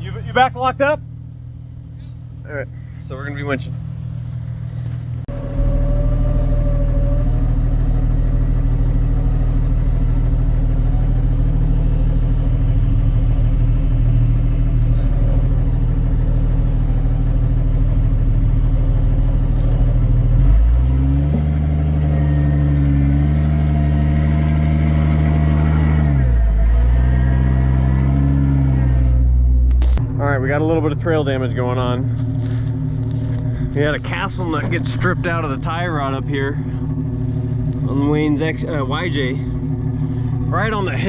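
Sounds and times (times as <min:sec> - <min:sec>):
off-road vehicle engine running: 0:00.0 - 0:41.0.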